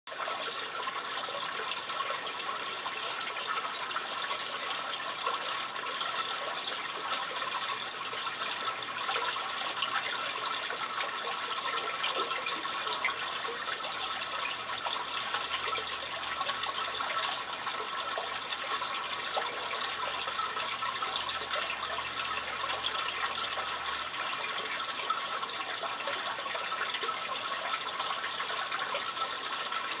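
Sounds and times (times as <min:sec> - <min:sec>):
water rushing in a sewer: 0:00.1 - 0:30.0
water trickling and splashing: 0:00.1 - 0:30.0.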